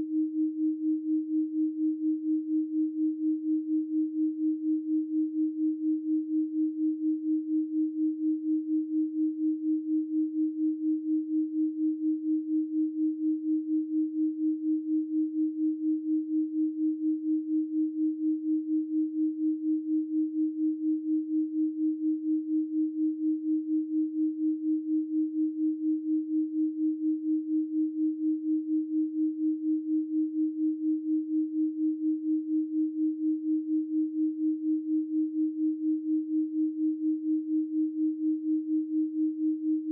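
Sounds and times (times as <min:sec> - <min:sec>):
steady pure sine tone: 0:00.0 - 0:39.9.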